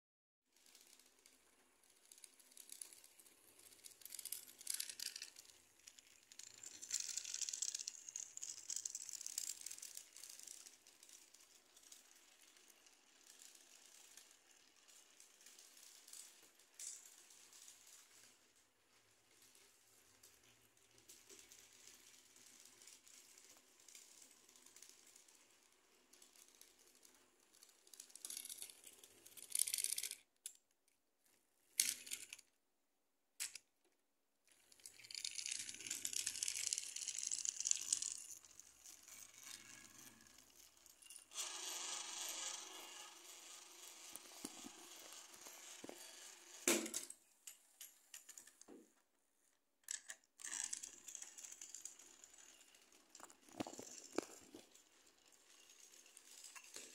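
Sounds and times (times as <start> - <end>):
toy train rattling on track: 0.6 - 18.5, 20.2 - 30.6, 31.8 - 32.4, 34.5 - 47.6, 49.9 - 56.9
plastic cars clicking: 0.6 - 18.6, 19.4 - 30.7, 31.8 - 32.5, 33.4 - 48.8, 49.8 - 56.9.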